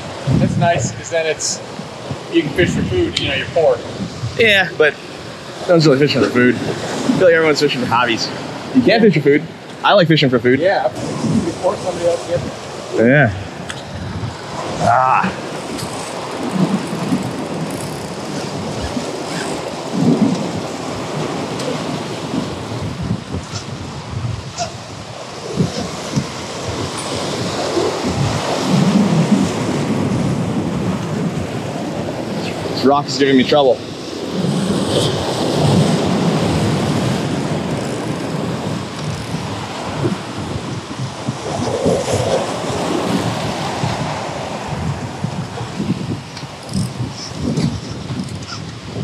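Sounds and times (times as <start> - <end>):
surf washing against rocks: 0.0 - 49.0
wind rumbling on microphone: 0.0 - 49.0.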